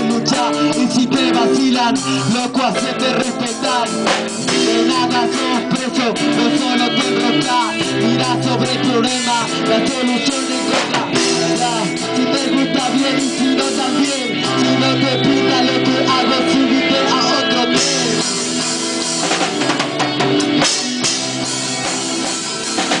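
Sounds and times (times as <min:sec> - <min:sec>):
drum kit: 0:00.0 - 0:23.0
live rock band playing: 0:00.0 - 0:23.0
guitar bending sliding notes: 0:01.2 - 0:23.0.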